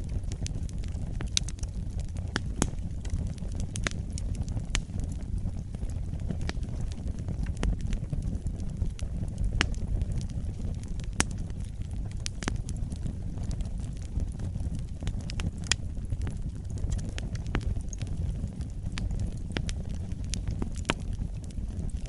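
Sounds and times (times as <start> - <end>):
burning wood crackling and popping: 0.0 - 22.0
fire flames rumbling: 0.0 - 22.0.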